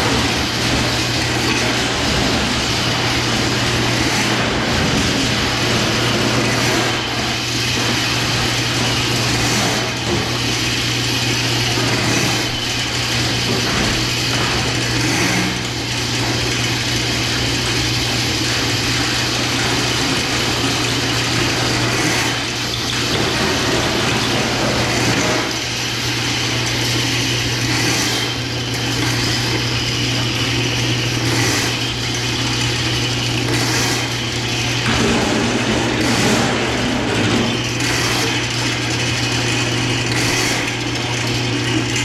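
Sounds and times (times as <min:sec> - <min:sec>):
machine humming: 0:00.0 - 0:42.0.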